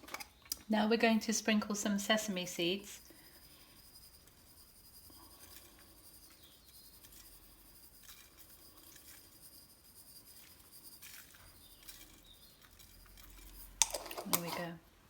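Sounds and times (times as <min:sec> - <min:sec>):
seeds sprinkled by hand: 0:01.3 - 0:14.8.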